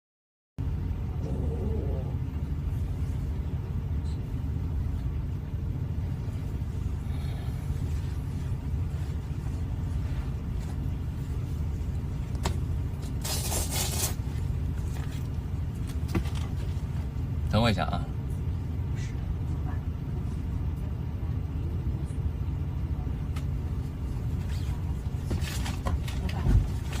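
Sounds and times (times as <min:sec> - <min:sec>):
steady low rumble: 0:00.6 - 0:27.0.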